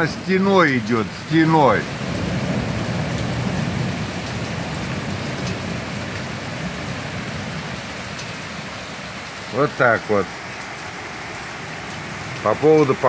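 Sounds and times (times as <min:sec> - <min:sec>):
torrential rain on street: 0:00.0 - 0:13.0.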